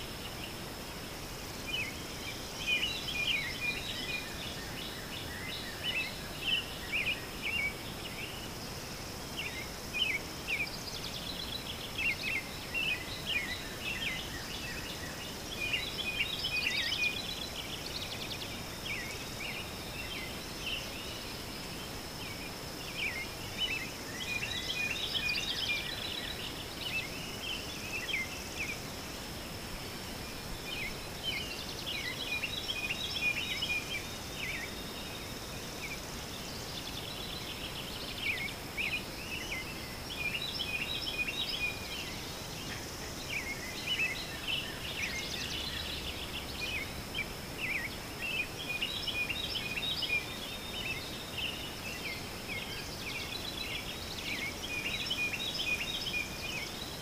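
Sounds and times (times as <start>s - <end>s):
background hiss: 0.0s - 57.0s
small birds chirping: 0.0s - 57.0s.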